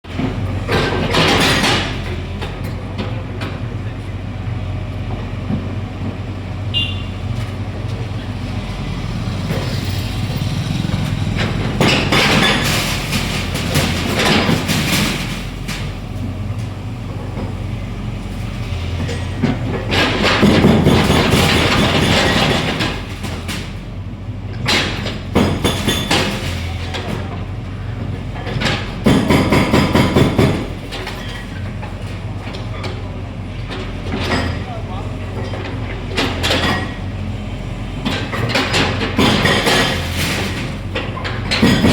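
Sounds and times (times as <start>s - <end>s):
excavator diesel engine running: 0.0s - 41.9s
demolition debris crashing: 0.1s - 4.0s, 7.2s - 41.9s.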